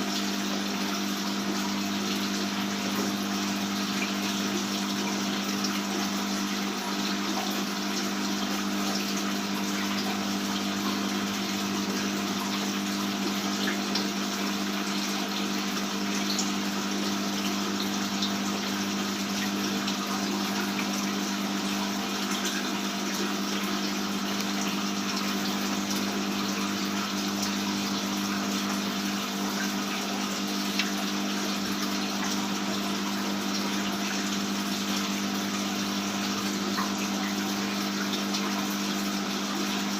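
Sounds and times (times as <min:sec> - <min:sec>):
aquarium pump humming: 0:00.0 - 0:39.9
water splashing and trickling: 0:00.0 - 0:39.9.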